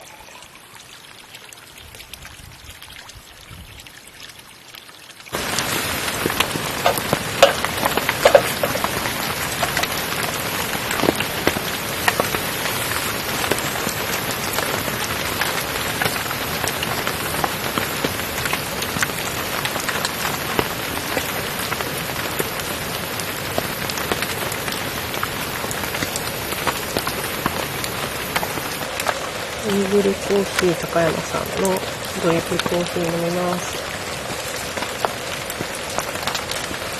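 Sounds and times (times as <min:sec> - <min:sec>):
steady rain patter: 0:00.0 - 0:36.9.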